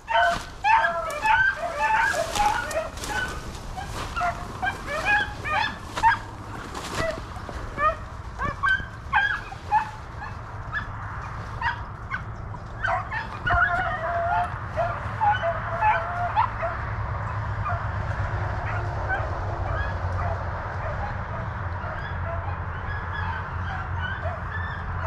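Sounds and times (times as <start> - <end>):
hounds baying and yelping: 0.0 - 25.0
steady low rumble: 0.0 - 25.0.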